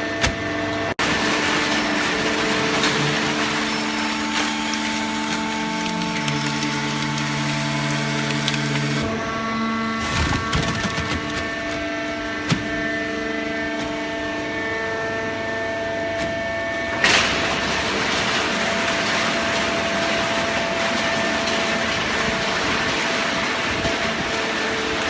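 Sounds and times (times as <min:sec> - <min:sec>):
baling press machine hum: 0:00.0 - 0:25.0.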